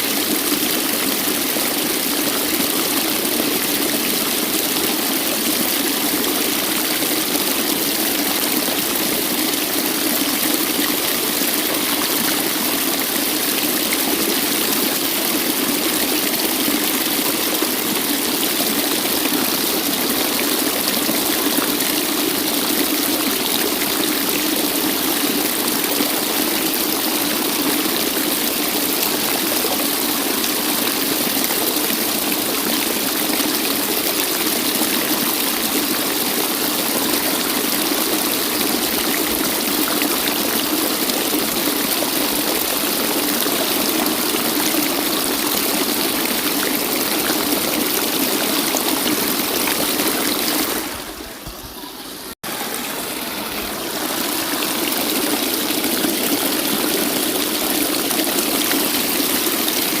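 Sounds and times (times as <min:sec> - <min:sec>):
waterfall roar: 0:00.0 - 1:00.0.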